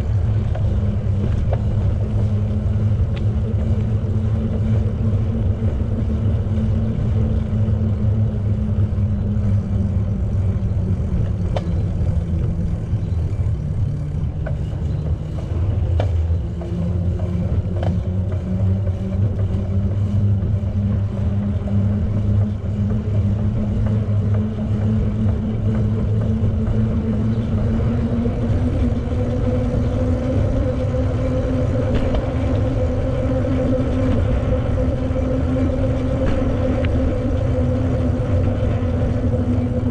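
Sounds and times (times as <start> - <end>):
bicycle rolling on pavement: 0.0 - 39.9
wind noise: 0.0 - 39.9.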